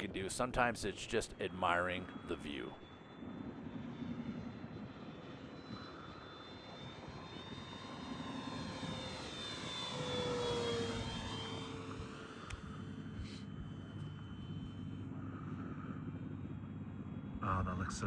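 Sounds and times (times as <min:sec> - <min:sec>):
model airplane motor whine: 0:01.4 - 0:17.4.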